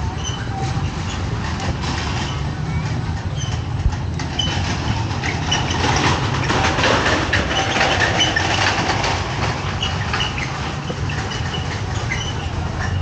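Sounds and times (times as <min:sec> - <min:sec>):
rumble of engines and traffic: 0:00.0 - 0:13.0
clicks and clatter: 0:01.4 - 0:13.0.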